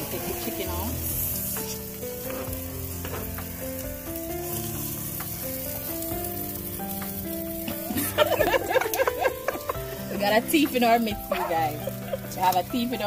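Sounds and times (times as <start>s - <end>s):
meat sizzling on grill: 0.0s - 13.0s
melody of held notes: 0.0s - 13.0s.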